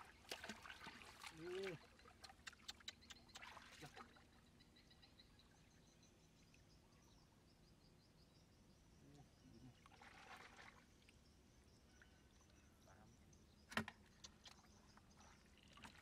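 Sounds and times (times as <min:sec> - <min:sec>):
faint outdoor ambience: 0:00.0 - 0:16.0.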